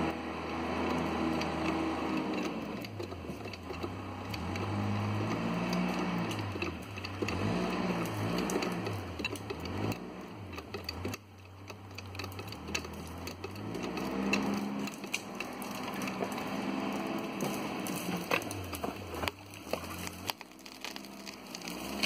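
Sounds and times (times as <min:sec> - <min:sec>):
low engine-like hum: 0:00.0 - 0:22.0
wood cracking and popping: 0:00.3 - 0:22.0.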